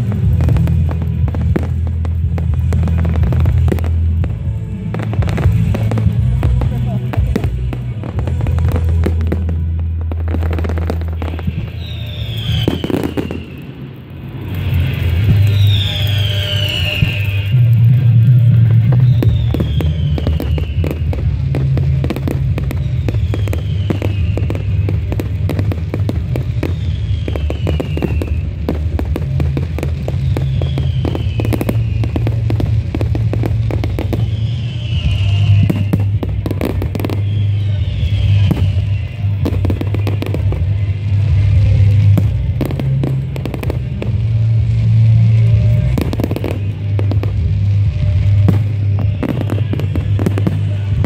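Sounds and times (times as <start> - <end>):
music with heavy bass: 0.0 - 12.0, 14.4 - 51.0
fireworks bangs and crackles: 0.0 - 51.0
falling firework whistle: 5.0 - 51.0.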